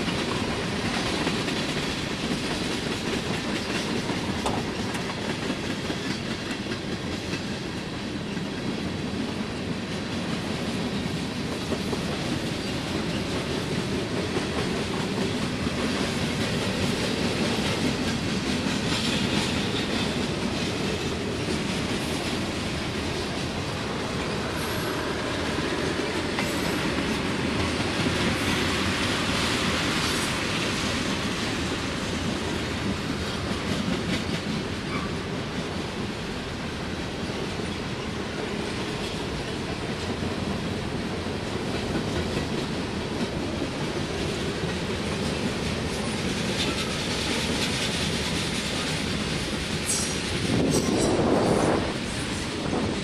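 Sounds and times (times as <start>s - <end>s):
freight train rumble: 0.0s - 53.0s
train wheels clicking over rail joints: 0.0s - 53.0s.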